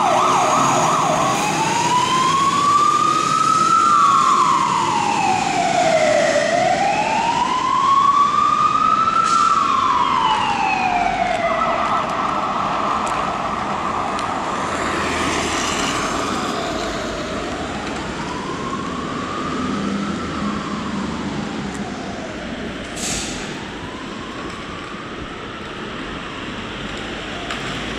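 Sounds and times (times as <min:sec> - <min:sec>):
fire engine siren wailing: 0:00.0 - 0:27.9.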